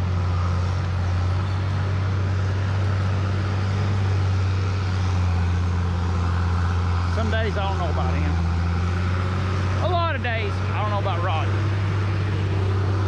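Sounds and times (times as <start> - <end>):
heavy diesel engine droning: 0.0 - 13.0.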